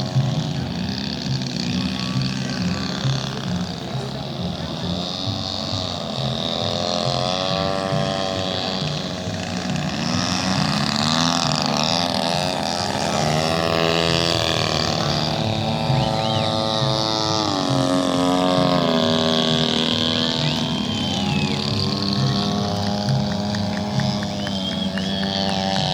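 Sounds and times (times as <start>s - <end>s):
model airplane engines: 0.0s - 25.9s.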